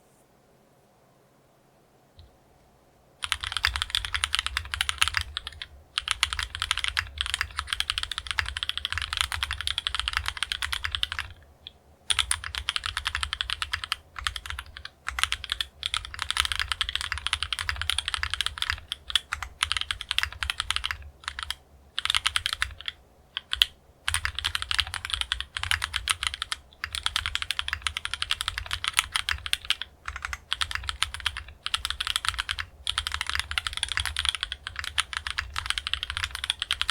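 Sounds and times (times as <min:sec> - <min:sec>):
fast typing on mechanical keyboard: 0:03.2 - 0:11.4, 0:12.1 - 0:36.9.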